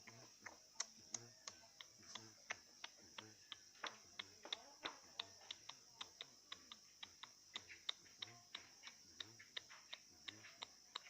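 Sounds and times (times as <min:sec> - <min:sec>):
bird hopping on perch ticks: 0:00.0 - 0:11.0
steady high hiss: 0:00.0 - 0:11.0.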